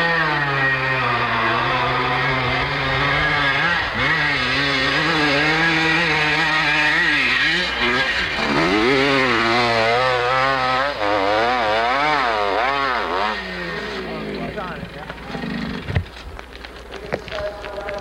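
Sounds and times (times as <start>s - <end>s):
dirt bike engine revving: 0.0s - 16.2s.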